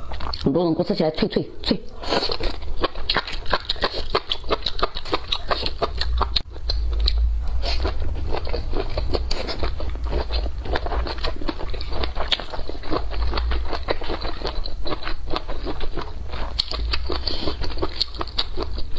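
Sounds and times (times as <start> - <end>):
chewing crunchy food: 0.0 - 0.5, 1.9 - 18.9.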